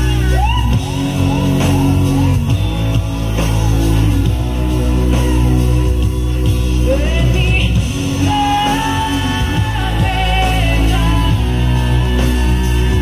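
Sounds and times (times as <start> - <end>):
deep bass: 0.0 - 13.0
live pop band music: 0.0 - 13.0.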